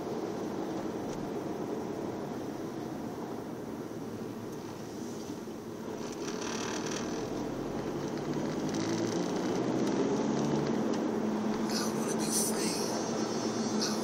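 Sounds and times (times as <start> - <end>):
car engine hum in cabin: 0.0 - 14.0.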